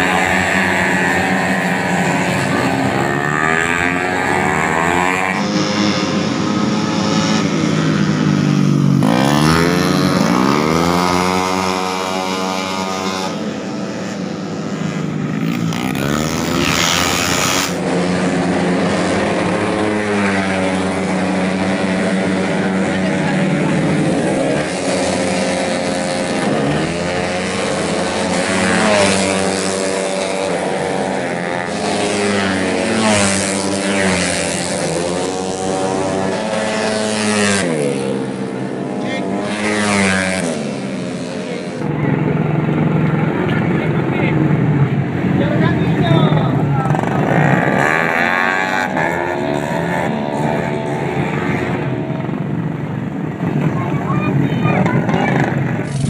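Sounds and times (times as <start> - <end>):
racing scooter engines revving: 0.0 - 56.0.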